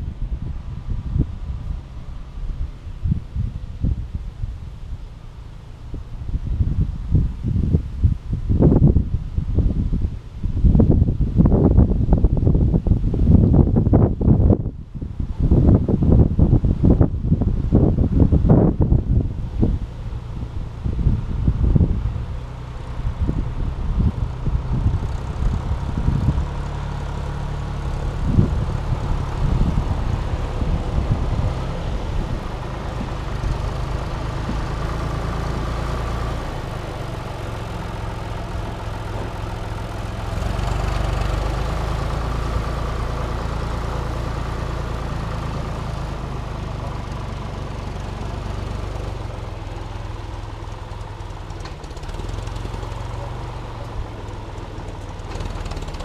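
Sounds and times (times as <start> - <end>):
tractor diesel engine running: 0.0 - 56.0
wind buffeting microphone: 0.0 - 56.0.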